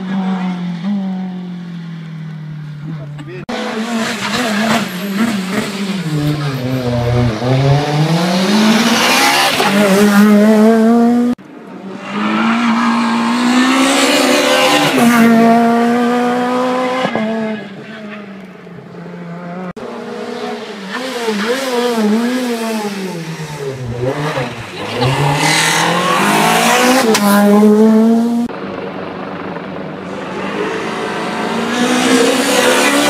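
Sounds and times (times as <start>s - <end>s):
rally car engines revving: 2.7s - 28.8s, 29.4s - 33.0s.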